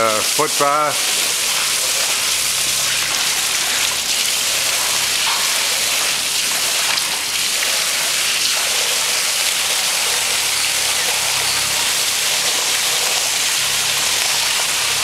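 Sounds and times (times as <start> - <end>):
liquid pouring and splashing: 0.0 - 15.0.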